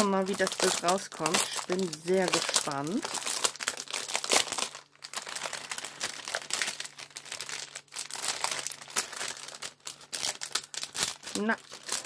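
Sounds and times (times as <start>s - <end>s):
faint steady hum: 0.0s - 12.0s
plastic film crinkling: 0.0s - 12.0s.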